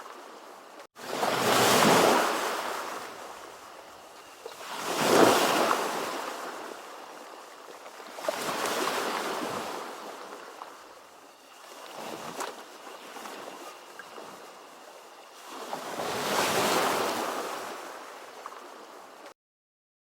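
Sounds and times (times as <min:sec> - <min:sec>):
waves breaking and washing in: 0:00.0 - 0:19.3.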